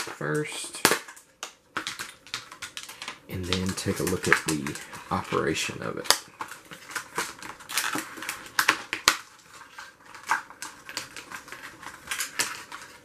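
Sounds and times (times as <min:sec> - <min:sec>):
plastic packaging crackling: 0:00.0 - 0:13.0.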